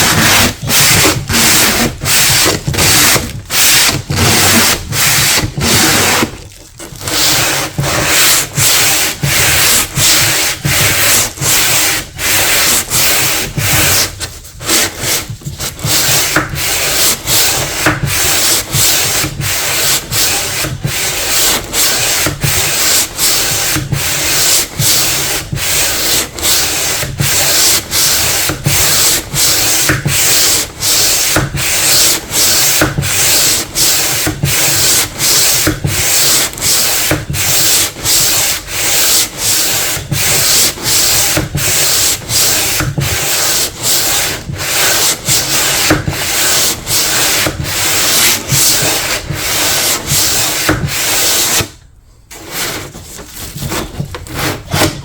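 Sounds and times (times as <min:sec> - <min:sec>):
hand sanding strokes: 0:00.0 - 0:55.0.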